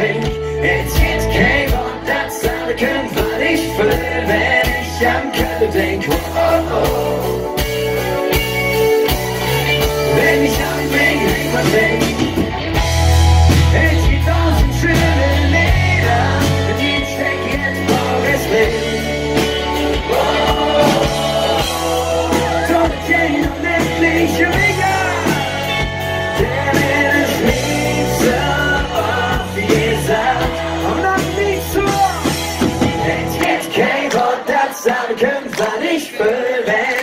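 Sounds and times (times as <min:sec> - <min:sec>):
rock band playing: 0:00.0 - 0:34.5
lead singer singing: 0:00.0 - 0:37.0.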